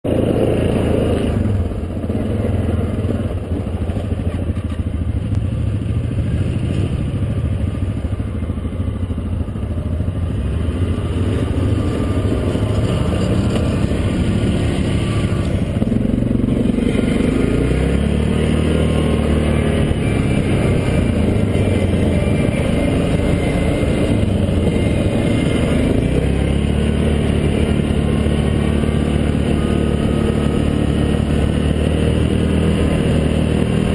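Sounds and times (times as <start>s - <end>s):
quad engine revving: 0.1s - 4.3s, 5.0s - 33.9s.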